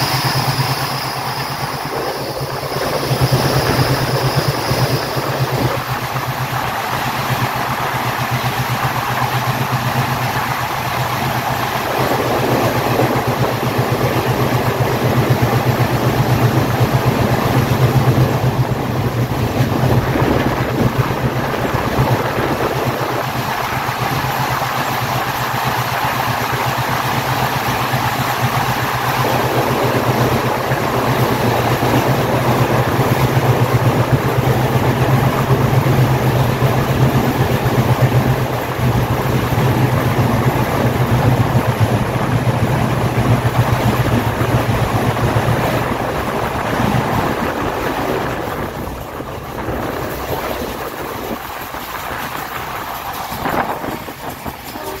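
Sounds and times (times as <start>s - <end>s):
diesel engine chugging: 0.0s - 55.0s
train wheels rumbling in tunnel: 0.0s - 55.0s.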